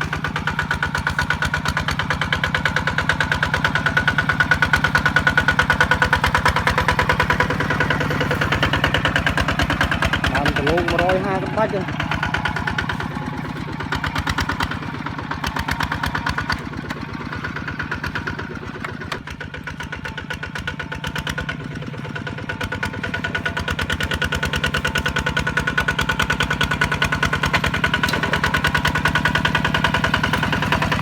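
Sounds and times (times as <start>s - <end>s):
diesel engine chugging: 0.0s - 31.0s.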